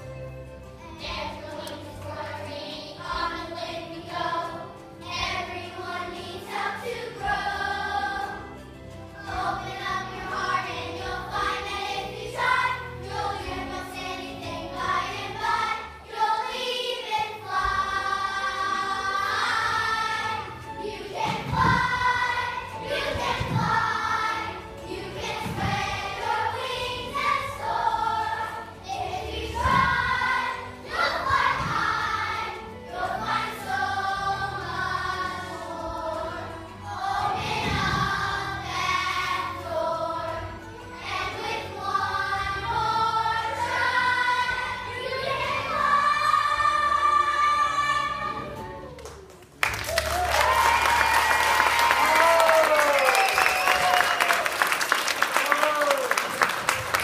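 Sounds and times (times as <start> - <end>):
children's choir singing: 0.0 - 49.0, 49.7 - 57.0
musical accompaniment: 0.0 - 57.0.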